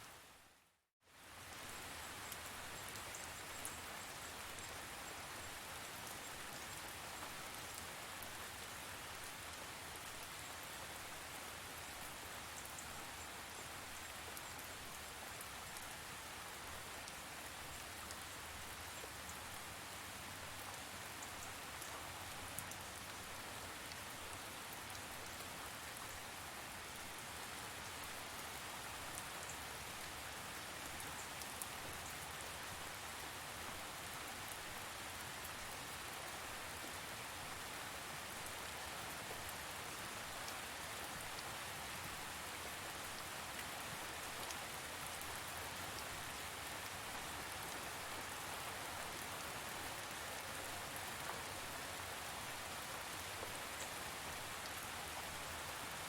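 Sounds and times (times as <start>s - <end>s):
steady rain falling: 0.0s - 56.0s
raindrops ticking on a surface: 1.1s - 56.0s.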